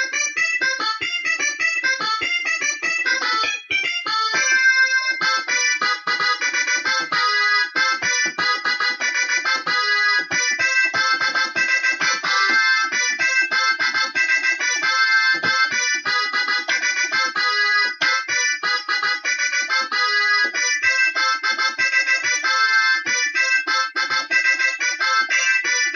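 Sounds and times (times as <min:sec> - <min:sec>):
synthesizer accordion-like melody: 0:00.0 - 0:25.9.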